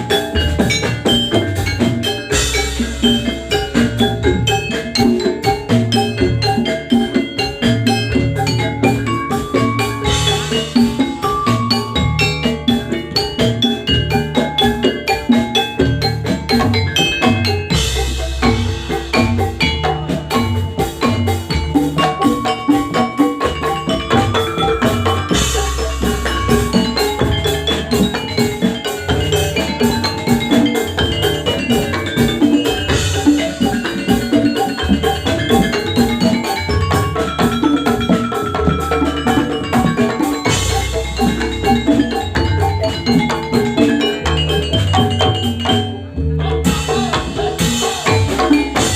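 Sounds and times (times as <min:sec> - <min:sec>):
metallophones playing fast notes: 0:00.0 - 0:48.9.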